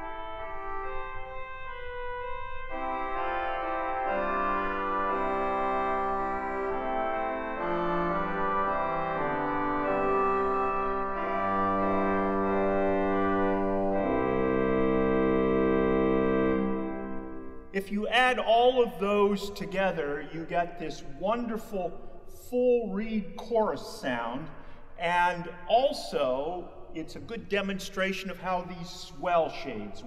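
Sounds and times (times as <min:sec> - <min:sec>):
pipe organ chords: 0:00.0 - 0:30.0.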